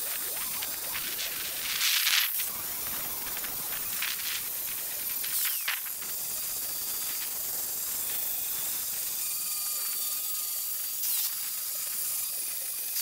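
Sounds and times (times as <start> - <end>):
power tool hissing on steel: 0.2 - 13.0.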